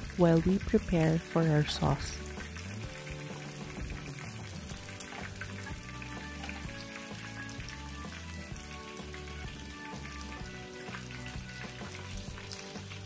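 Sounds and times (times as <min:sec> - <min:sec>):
background music: 0:00.0 - 0:13.0
chicken sizzling in hot oil: 0:00.0 - 0:13.0.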